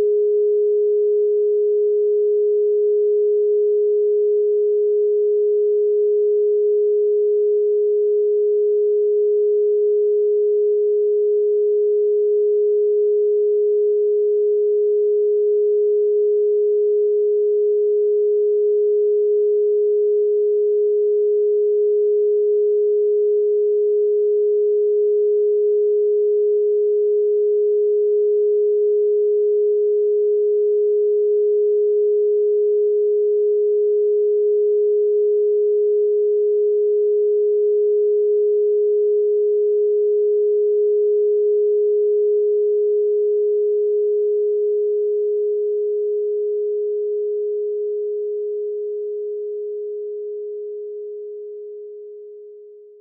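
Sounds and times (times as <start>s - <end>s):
steady sine tone: 0.0s - 53.0s.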